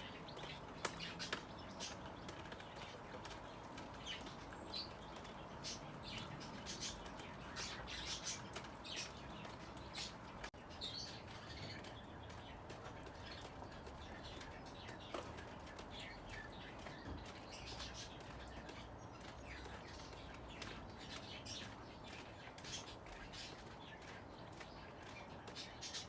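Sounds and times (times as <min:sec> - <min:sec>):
birds chirping: 0:00.0 - 0:26.0
faint background noise: 0:00.0 - 0:26.0.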